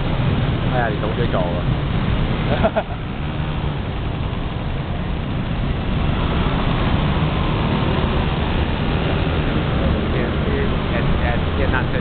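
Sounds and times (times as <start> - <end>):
scooter engines in traffic: 0.0 - 12.0.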